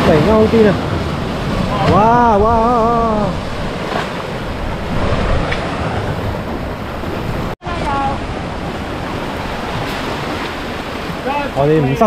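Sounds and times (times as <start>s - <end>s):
waves breaking on rocks: 0.0s - 12.0s
wind buffeting microphone: 0.0s - 12.0s.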